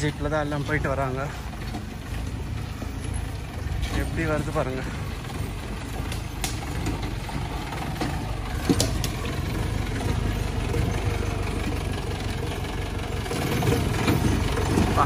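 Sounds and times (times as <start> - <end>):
jeep engine at low revs: 0.0 - 15.0.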